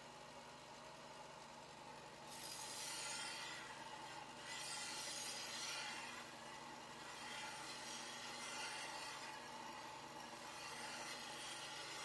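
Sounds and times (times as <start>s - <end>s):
grinder motor hum: 0.0s - 12.0s
knife grinding on belt grinder: 2.3s - 12.0s.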